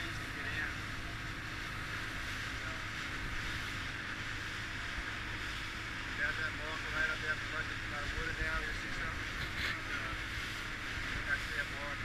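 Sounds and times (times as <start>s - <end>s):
motorboat engine hum: 0.0s - 12.0s
water rushing: 0.0s - 12.0s
wind: 0.0s - 12.0s.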